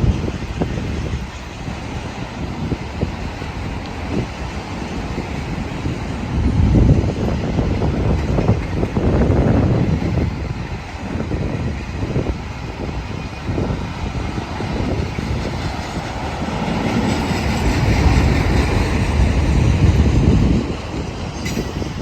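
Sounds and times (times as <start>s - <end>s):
rail noise: 0.0s - 22.0s
train rumbling past: 0.0s - 22.0s.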